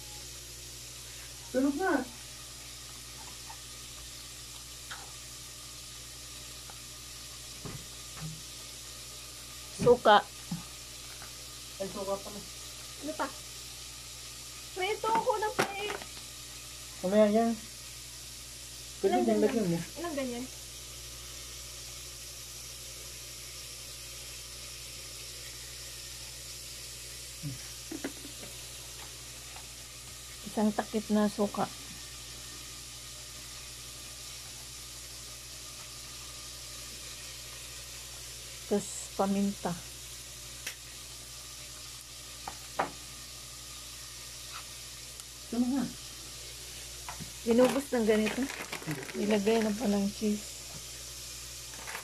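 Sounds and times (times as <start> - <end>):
steady hiss with low hum: 0.0 - 52.0.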